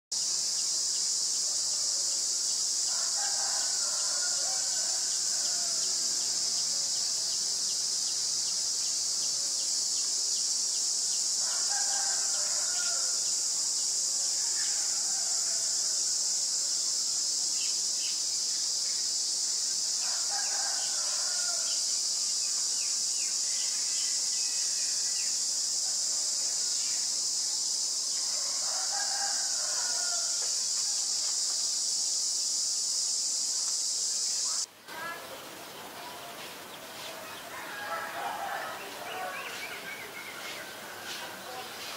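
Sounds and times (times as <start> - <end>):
high-pitched insect drone: 0.2 - 35.2.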